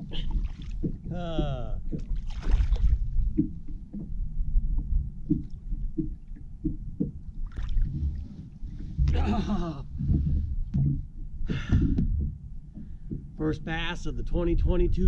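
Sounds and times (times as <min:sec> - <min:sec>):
low rumble of boat engine: 0:00.0 - 0:15.0.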